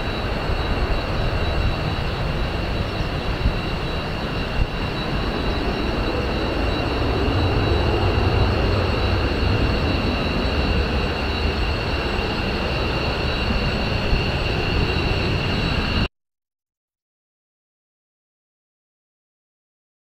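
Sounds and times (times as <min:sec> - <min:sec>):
jet airliner rumble: 0:00.0 - 0:16.1.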